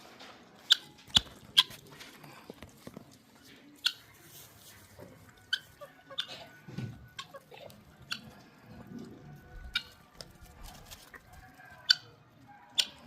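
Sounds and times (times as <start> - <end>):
farmyard animal sounds: 0.0 - 13.0.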